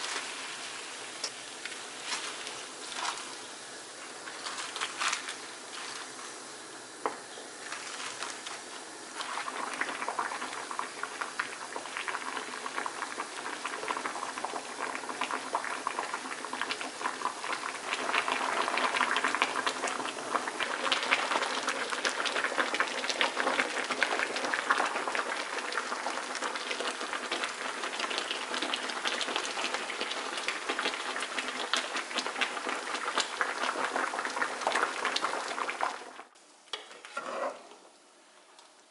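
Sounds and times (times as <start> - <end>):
water boiling in a pot: 0.0 - 38.9.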